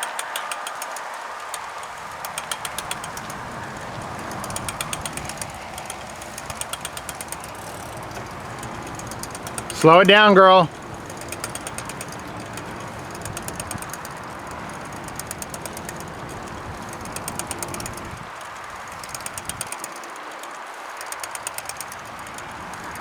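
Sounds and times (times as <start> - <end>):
bicycle tyre and wind noise: 0.0 - 23.0
freewheel ticking: 0.0 - 23.0.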